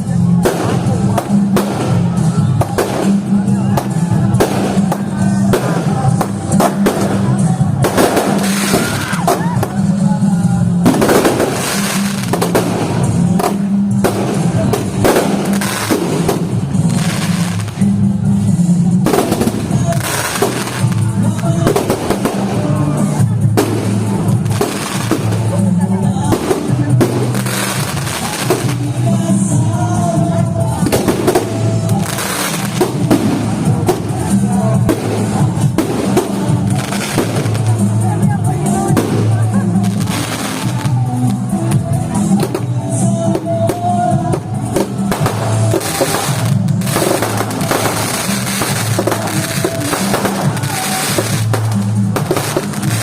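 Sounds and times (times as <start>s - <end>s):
fireworks bangs and crackles: 0.0s - 53.0s
loud music with heavy bass: 0.0s - 53.0s.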